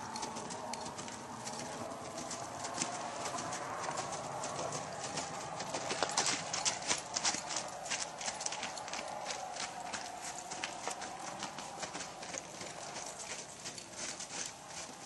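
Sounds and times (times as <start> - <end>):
horse hoofbeats on snow: 0.0 - 15.0.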